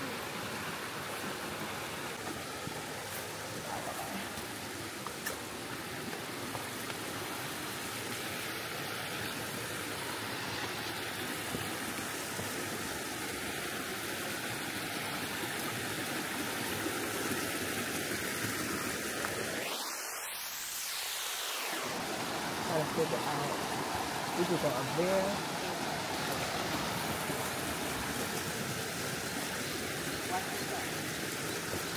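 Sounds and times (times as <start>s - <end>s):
river running over rocks: 0.0s - 31.9s.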